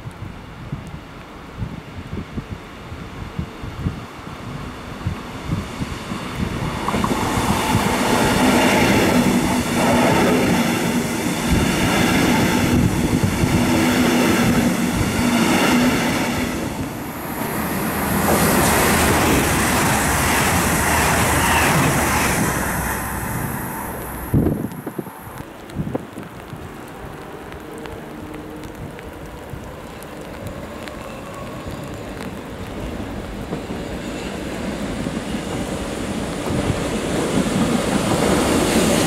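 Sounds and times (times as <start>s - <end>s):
low train hum: 0.0s - 39.0s
hissy rushing noise: 1.9s - 39.0s.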